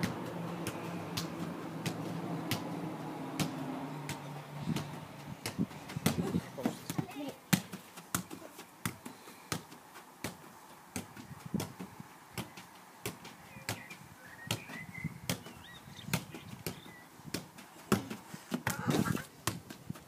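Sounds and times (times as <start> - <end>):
foot tapping football: 0.0 - 20.0.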